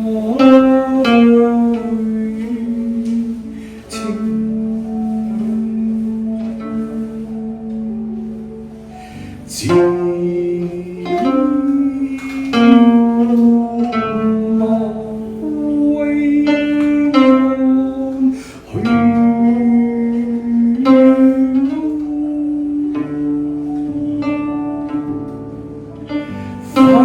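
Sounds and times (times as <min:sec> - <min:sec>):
plucked string instrument melody: 0:00.0 - 0:27.0.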